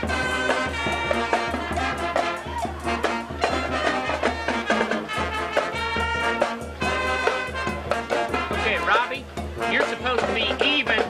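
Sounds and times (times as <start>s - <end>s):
brass playing tune: 0.0s - 11.0s
marching drums beat: 0.0s - 11.0s.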